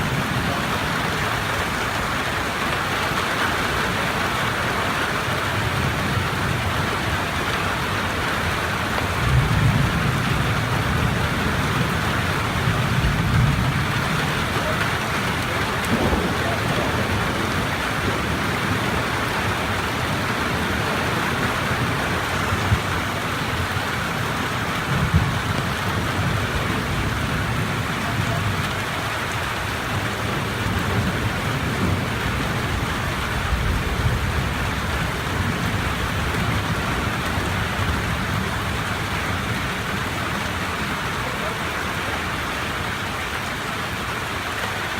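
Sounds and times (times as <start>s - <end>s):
low thunder rumbling: 0.0s - 29.0s, 29.8s - 40.9s
heavy rain: 0.0s - 44.9s.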